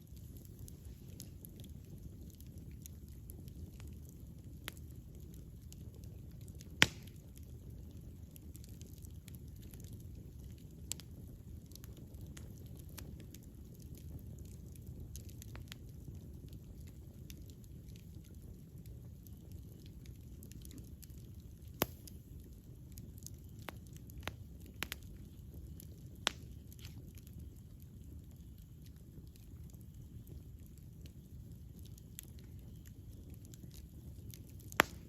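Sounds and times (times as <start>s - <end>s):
campfire crackling and popping: 0.0s - 35.0s
sharp fire snaps: 0.0s - 35.0s.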